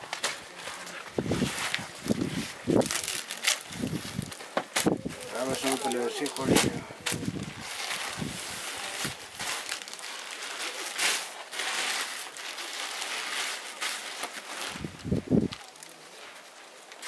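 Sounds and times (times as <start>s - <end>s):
cloth rustling and crinkling: 0.0s - 17.0s.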